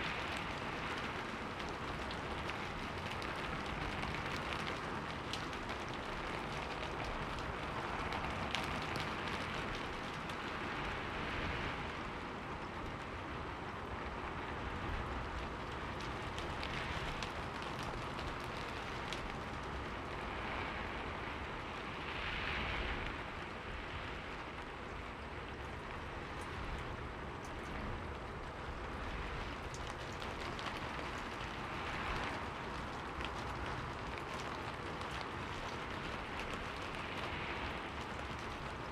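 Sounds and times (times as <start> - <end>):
rain pattering: 0.0 - 38.9
raindrop ticks: 0.0 - 38.9.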